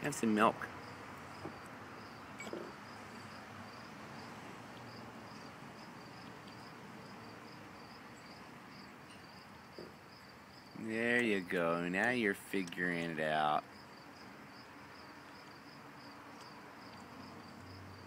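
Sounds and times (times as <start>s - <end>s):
insect chirping: 0.4s - 10.9s, 13.6s - 18.0s.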